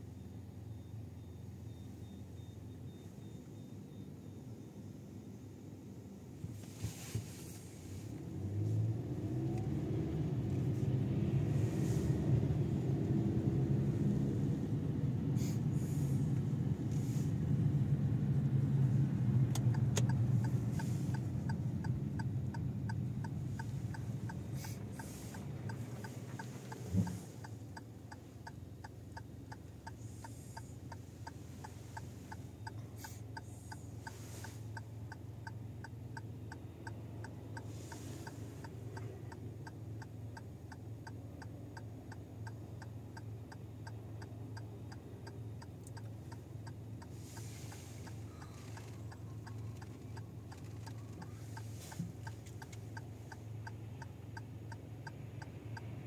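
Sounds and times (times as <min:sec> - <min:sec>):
car engine and tyres rumbling: 0:00.0 - 0:56.0
turn signal ticking: 0:06.4 - 0:56.0.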